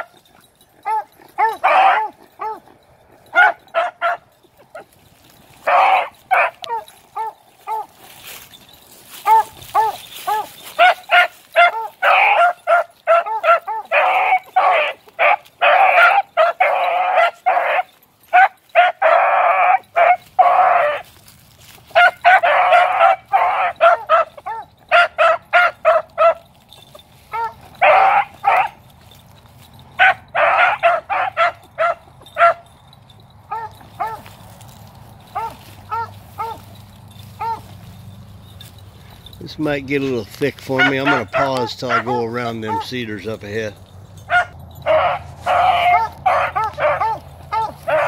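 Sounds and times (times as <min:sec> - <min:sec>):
beagle pups baying: 0:00.0 - 0:48.0.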